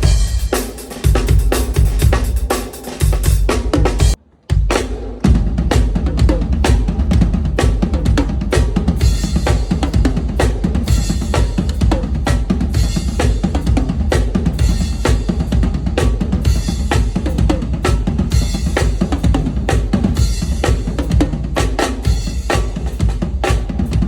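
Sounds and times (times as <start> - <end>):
drum kit groove: 0.0 - 24.0.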